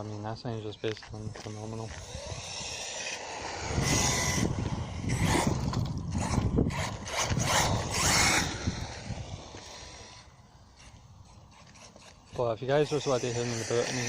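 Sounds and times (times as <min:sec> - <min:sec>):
tyres scraping over dirt: 0:00.0 - 0:14.0
electric motor whine: 0:01.2 - 0:14.0.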